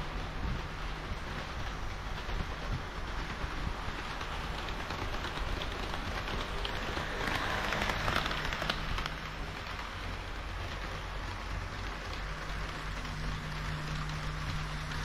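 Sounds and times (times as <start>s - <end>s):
model train wheels rattling on rail: 0.0s - 15.0s.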